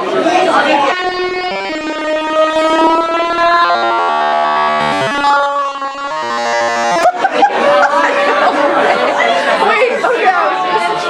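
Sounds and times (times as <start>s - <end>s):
synthesizer music with held notes: 0.0s - 11.0s.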